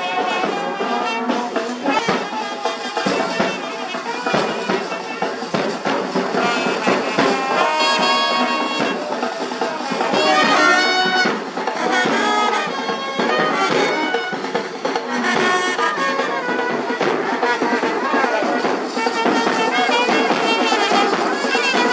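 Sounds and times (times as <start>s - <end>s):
brass band playing: 0.0s - 21.9s.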